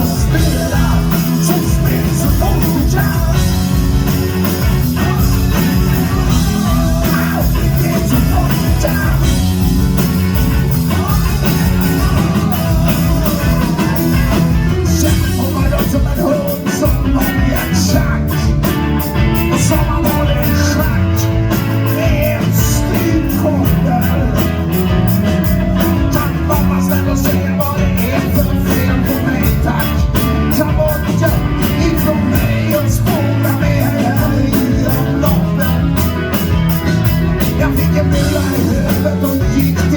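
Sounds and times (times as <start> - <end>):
drum and cymbal beat: 0.0 - 39.9
live rock band playing: 0.0 - 39.9
person singing: 0.0 - 39.9.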